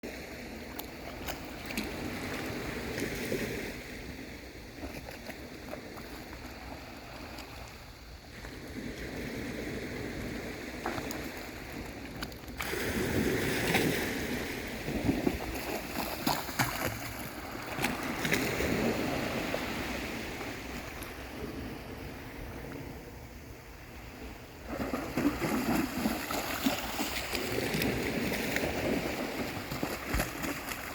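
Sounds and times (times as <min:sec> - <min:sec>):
waves washing onto beach: 0:00.1 - 0:30.9.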